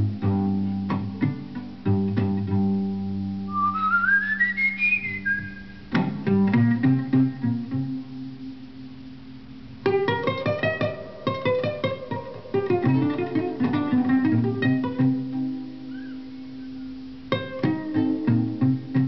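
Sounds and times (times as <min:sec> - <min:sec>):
plucked string notes: 0:00.0 - 0:19.0.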